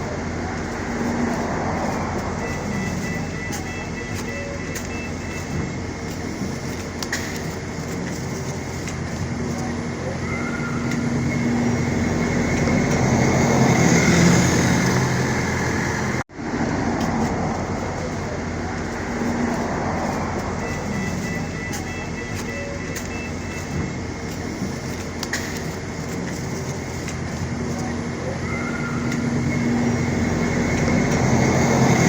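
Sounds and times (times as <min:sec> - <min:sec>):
bus drive hum: 0:00.0 - 0:32.0.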